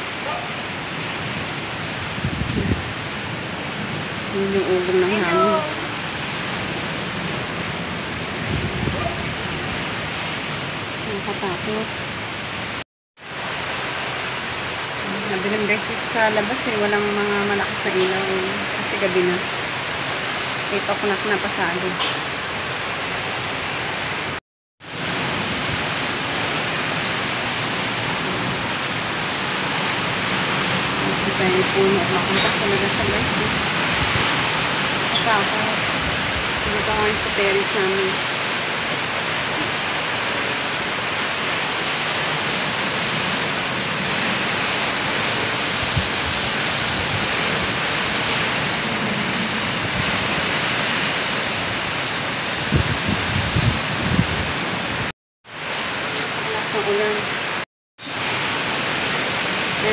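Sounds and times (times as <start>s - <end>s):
wind and rain rushing: 0.0s - 59.9s.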